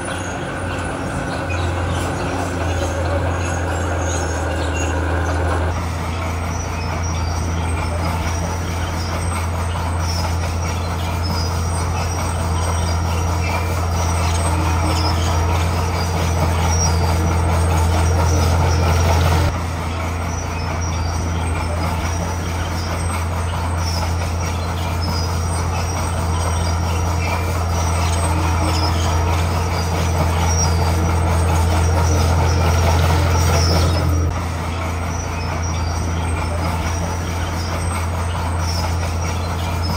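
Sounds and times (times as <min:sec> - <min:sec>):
diesel engine drone: 0:00.0 - 0:39.9
machinery clattering: 0:00.0 - 0:39.9.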